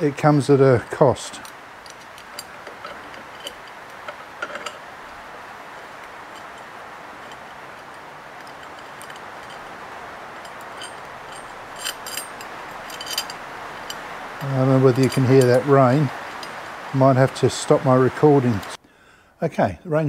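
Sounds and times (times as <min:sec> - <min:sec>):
rain hissing: 0:00.0 - 0:19.2.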